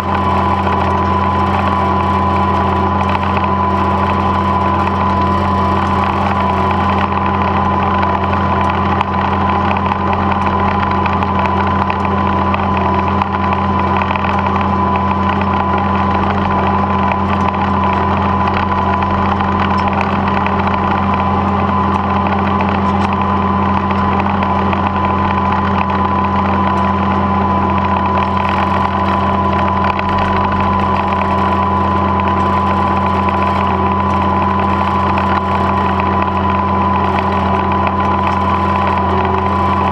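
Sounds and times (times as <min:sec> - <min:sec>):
steady high whine: 0:00.0 - 0:39.9
tractor engine running: 0:00.0 - 0:39.9.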